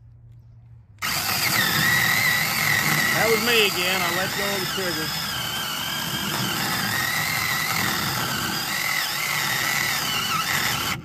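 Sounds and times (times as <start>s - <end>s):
mini chainsaw cutting log: 1.0s - 11.0s.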